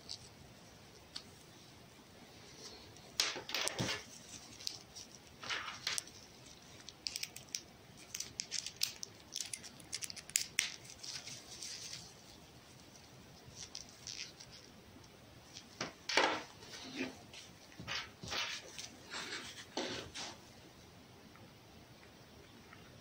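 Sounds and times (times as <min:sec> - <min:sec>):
disposable gloves rustling: 0:00.0 - 0:20.5.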